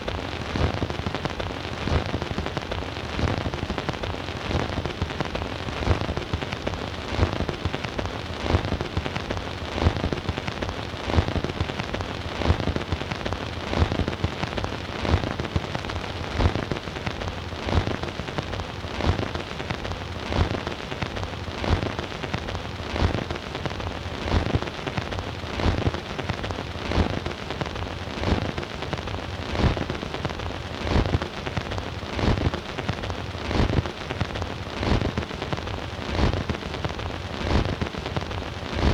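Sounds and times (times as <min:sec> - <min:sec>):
record crackle and hiss: 0:00.0 - 0:38.9.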